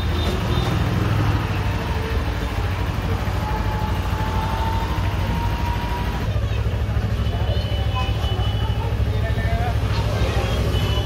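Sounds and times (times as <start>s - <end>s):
low engine rumble: 0.0s - 11.0s
street traffic noise: 0.0s - 11.0s.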